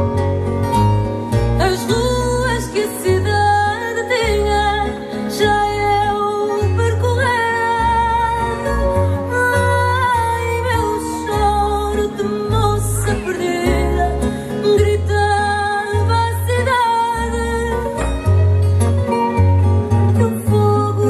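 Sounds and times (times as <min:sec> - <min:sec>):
deep sustained bass notes: 0:00.0 - 0:21.0
plucked guitars: 0:00.0 - 0:21.0.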